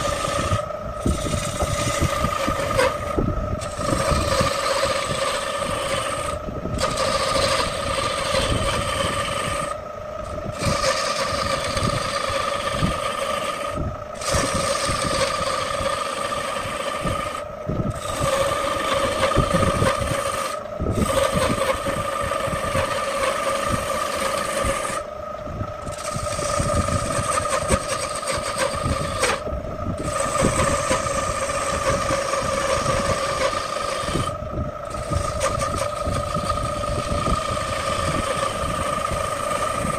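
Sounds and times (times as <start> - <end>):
turning tool cutting wood: 0.0 - 25.1, 25.8 - 39.9
wood lathe humming: 0.0 - 39.9.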